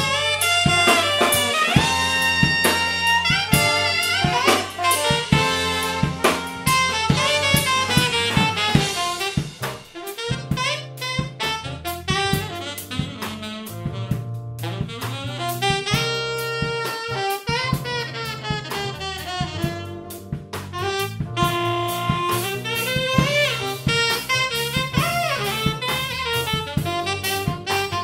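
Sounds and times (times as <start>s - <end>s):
drum kit: 0.0s - 28.0s
saxophone playing jazz melody: 0.0s - 28.0s.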